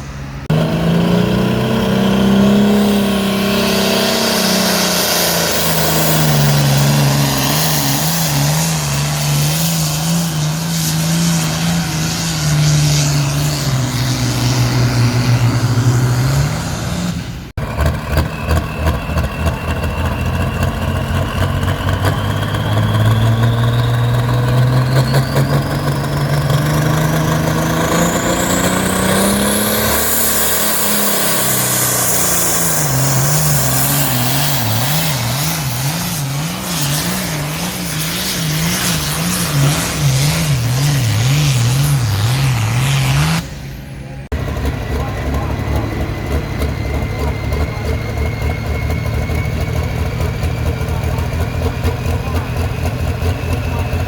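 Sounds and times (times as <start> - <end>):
vehicle engine revving with whine: 0.0 - 54.0.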